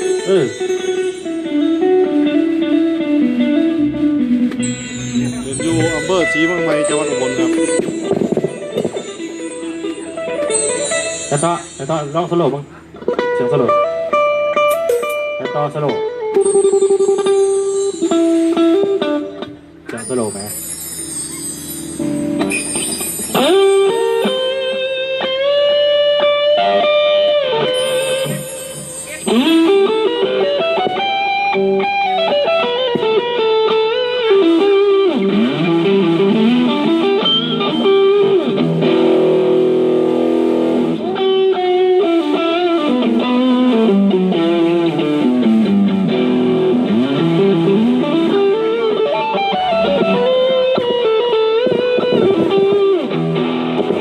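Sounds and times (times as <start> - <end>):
electric guitar slow melody: 0.0 - 54.0.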